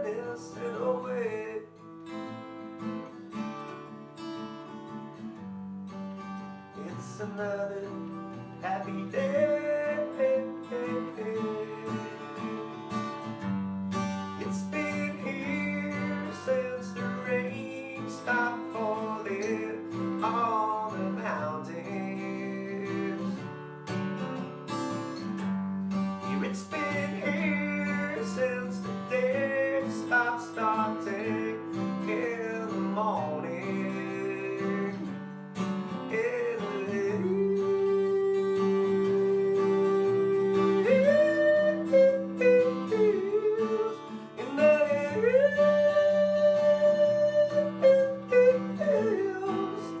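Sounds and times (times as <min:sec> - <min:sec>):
acoustic guitar music: 0:00.0 - 0:50.0.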